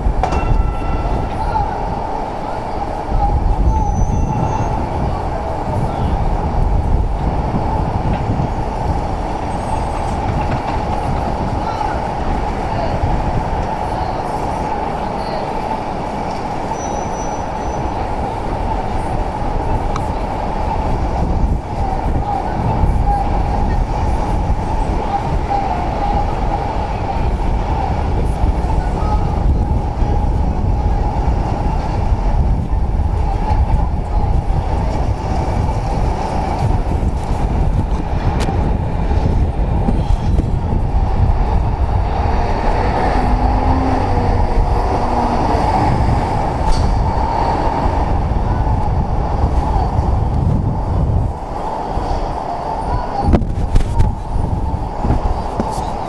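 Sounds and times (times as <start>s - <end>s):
low rumble of street noise: 0.0s - 56.0s.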